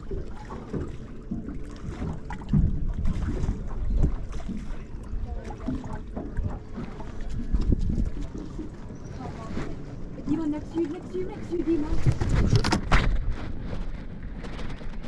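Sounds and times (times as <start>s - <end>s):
water against boat: 0.0s - 15.0s
wind buffeting microphone: 2.2s - 15.0s.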